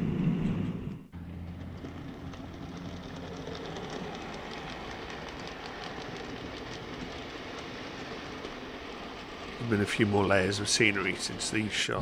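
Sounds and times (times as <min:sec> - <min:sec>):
model train rumbling: 0:00.0 - 0:12.0
wheels clicking over rail joints: 0:00.4 - 0:12.0.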